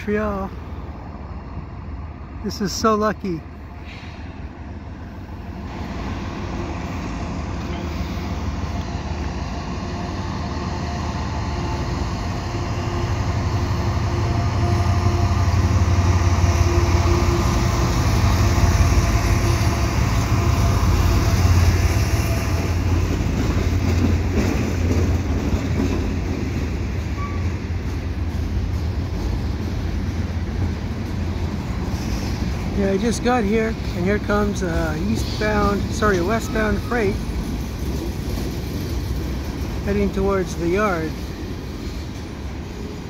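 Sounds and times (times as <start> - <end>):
diesel locomotive engines droning: 0.0 - 43.0
freight cars rolling: 0.0 - 43.0.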